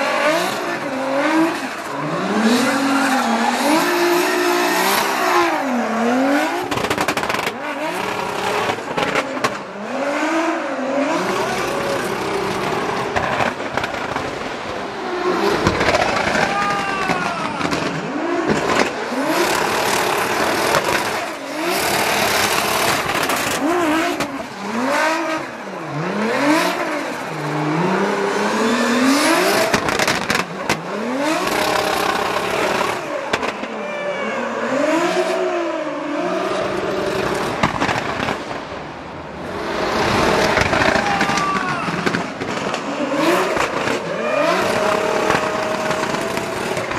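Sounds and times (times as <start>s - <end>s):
car engine revving: 0.0s - 33.7s, 34.3s - 46.9s.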